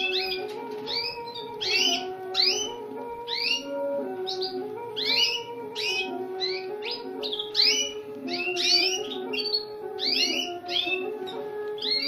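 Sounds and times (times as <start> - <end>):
chicks chirping: 0.0 - 12.0
instrumental music: 0.0 - 12.0.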